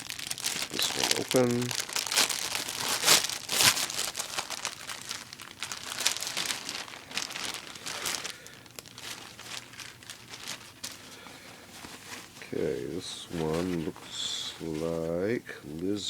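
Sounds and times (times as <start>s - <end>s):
packaging bag crinkling: 0.0s - 15.1s.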